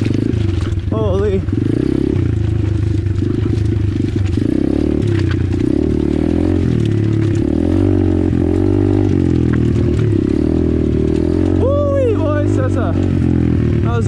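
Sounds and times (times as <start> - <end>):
motorcycle engine revving: 0.0 - 14.0
stones and chassis clattering: 0.0 - 14.0.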